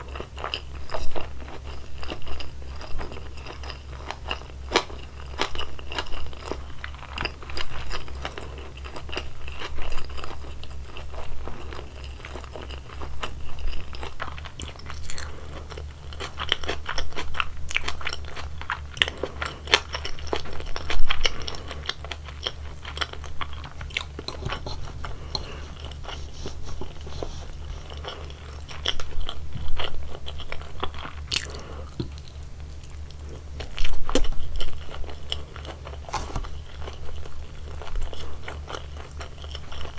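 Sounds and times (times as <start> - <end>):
chewing and biting food: 0.0 - 39.9
steady low hum: 0.0 - 39.9.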